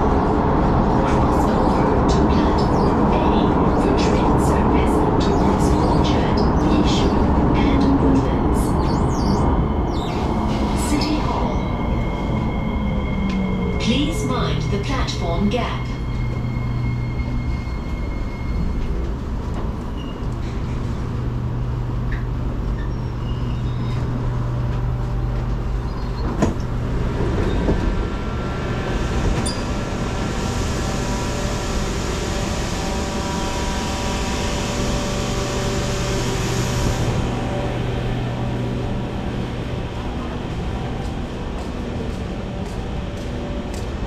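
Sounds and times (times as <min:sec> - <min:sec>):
train equipment humming: 0:00.0 - 0:44.0.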